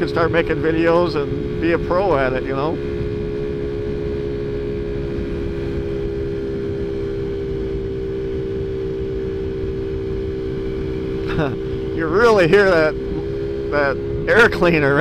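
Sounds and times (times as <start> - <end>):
scooter engine droning: 0.0 - 15.0.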